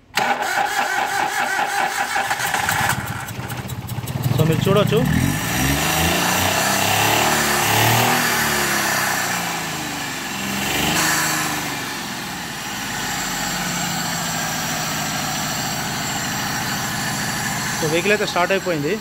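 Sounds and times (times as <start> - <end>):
car engine revving and idling: 2.3 - 19.0.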